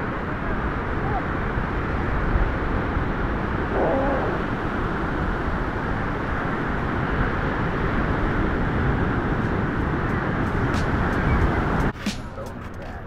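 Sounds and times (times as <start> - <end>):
wind and sea rushing: 0.0 - 13.0.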